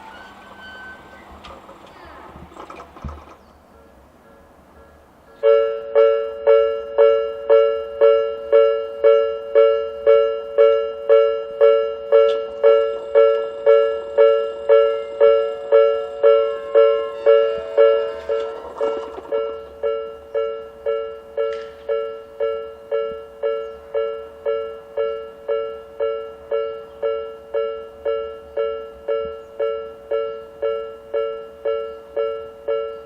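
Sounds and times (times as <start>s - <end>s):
level-crossing alarm dinging: 0.0s - 3.0s, 3.7s - 33.0s.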